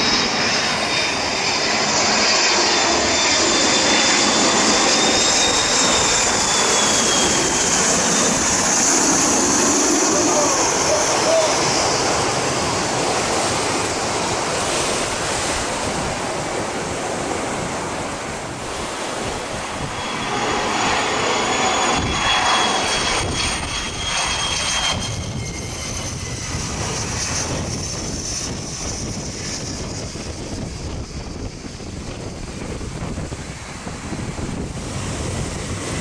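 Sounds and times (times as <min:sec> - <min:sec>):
business jet whine: 0:00.0 - 0:36.0
jet airliner engines rushing: 0:00.0 - 0:36.0.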